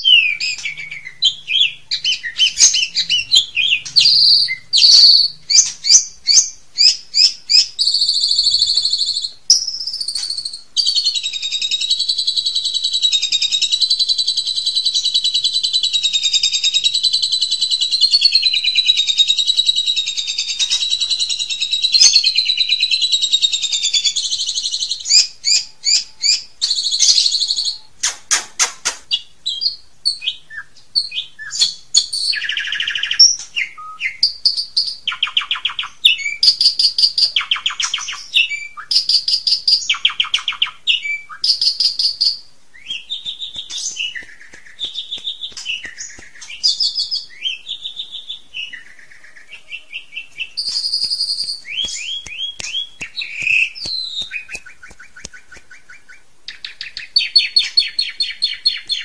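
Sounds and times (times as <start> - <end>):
starling singing: 0.0 - 28.0, 29.1 - 59.0.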